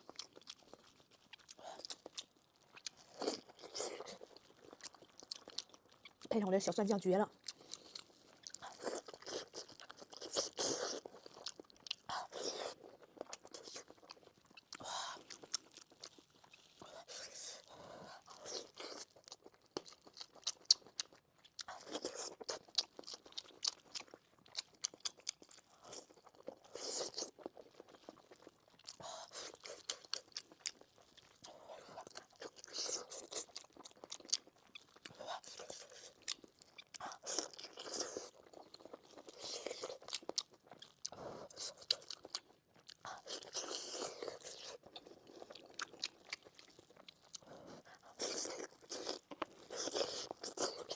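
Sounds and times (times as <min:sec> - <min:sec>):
close chewing with wet smacking: 0:00.0 - 0:50.9.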